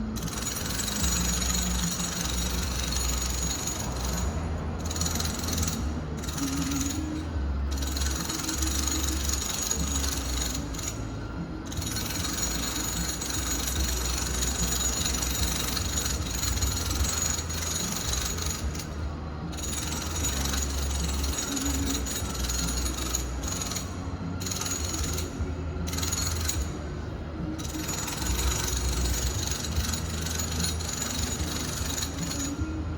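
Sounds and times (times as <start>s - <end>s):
power tools rattling and grinding: 0.0s - 32.9s.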